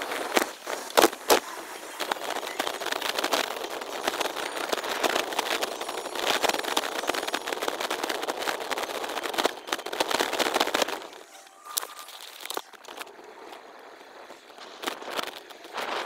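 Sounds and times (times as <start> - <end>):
sped-up bicycle ride clatter: 0.0 - 16.0.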